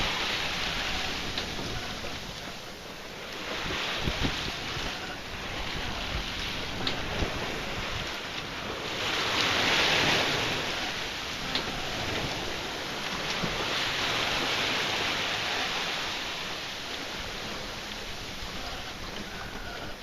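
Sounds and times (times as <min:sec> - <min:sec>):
waves hissing along boat hull: 0:00.0 - 0:20.0.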